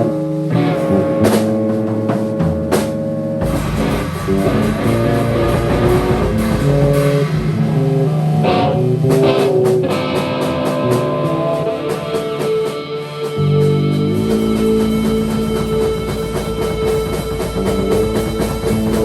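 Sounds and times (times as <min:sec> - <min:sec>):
bass: 0:00.0 - 0:19.0
drums: 0:00.0 - 0:19.0
electric guitar: 0:00.0 - 0:19.0.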